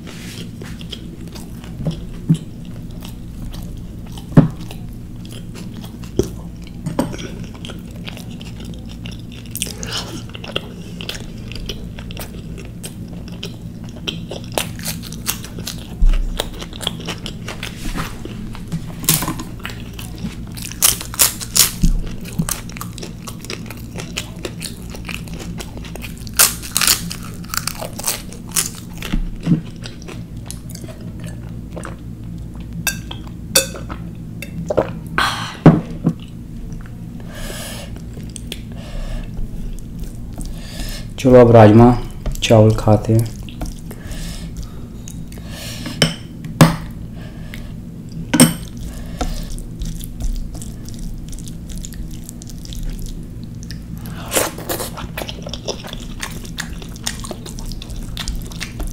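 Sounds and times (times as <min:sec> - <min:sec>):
person chewing: 0:00.0 - 0:41.2, 0:43.2 - 0:46.0, 0:46.9 - 0:58.9
steady low hum: 0:00.0 - 0:58.9.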